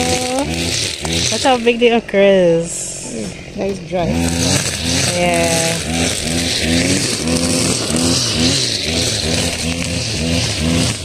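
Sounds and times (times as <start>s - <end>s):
brushcutter engine running: 0.0s - 11.0s.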